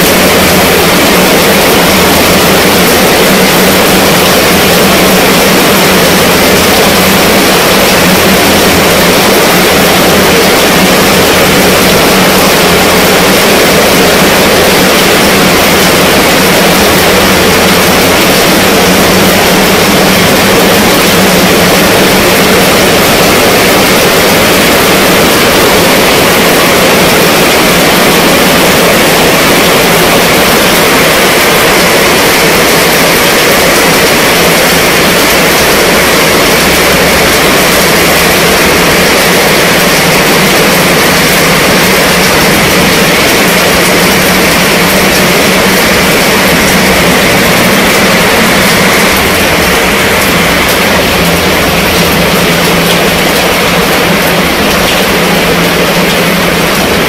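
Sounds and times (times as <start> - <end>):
heavy rain on fabric tent: 0.0 - 57.0.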